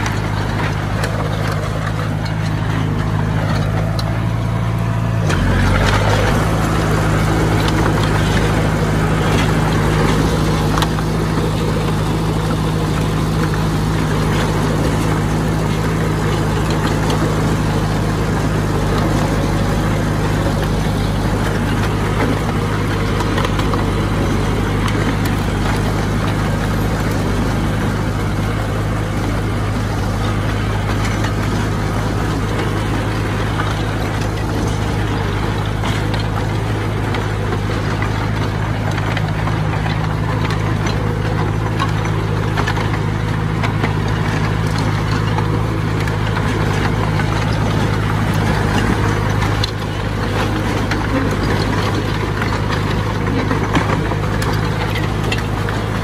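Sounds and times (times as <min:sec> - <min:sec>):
heavy machine engine droning: 0:00.0 - 0:56.0.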